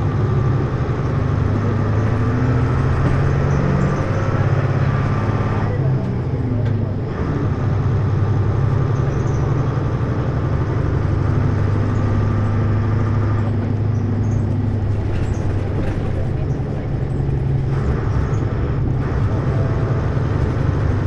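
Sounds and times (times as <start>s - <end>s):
bus diesel engine drone: 0.0s - 21.0s.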